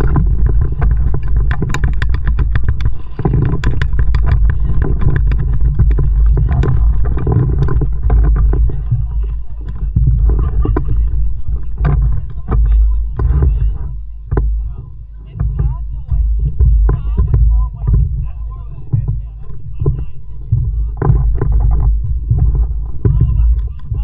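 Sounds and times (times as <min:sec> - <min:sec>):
heavy low rumble: 0:00.0 - 0:24.0
paddle splashing and dripping water: 0:00.0 - 0:24.0.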